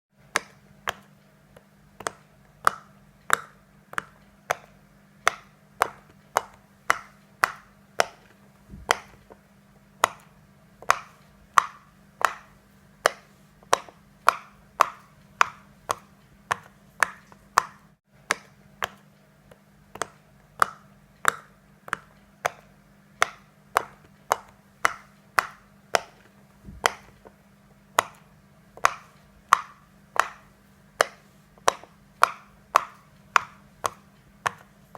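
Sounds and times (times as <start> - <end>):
faint steady hum: 0.2 - 34.9.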